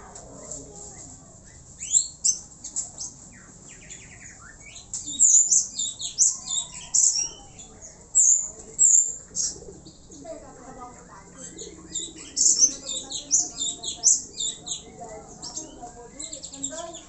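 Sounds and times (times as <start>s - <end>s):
birds chirping and squeaking: 0.2s - 17.0s.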